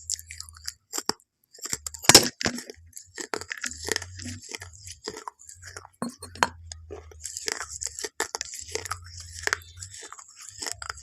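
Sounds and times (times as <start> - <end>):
crisp food crunching when chewed: 0.0 - 11.0.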